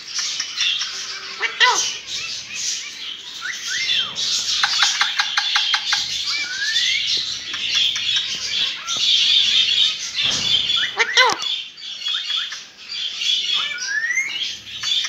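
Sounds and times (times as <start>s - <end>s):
birds whistling: 0.0s - 15.0s
high bird twittering: 0.0s - 15.0s.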